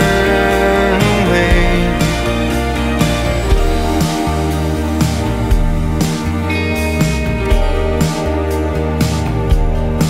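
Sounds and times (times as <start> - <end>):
song with steady beat: 0.0 - 10.0.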